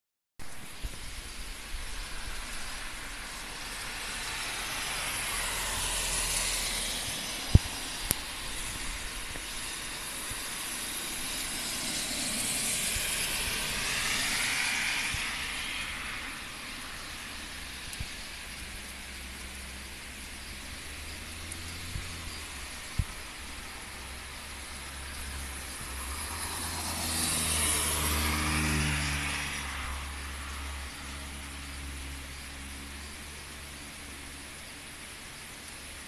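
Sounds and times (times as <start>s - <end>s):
heavy rain hissing: 0.4s - 36.0s
tyres passing on wet road: 0.6s - 36.0s.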